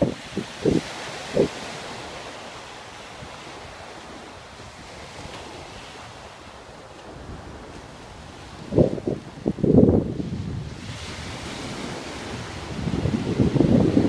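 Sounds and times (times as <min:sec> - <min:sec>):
small waves breaking: 0:00.0 - 0:14.0
wind on microphone: 0:00.0 - 0:14.0.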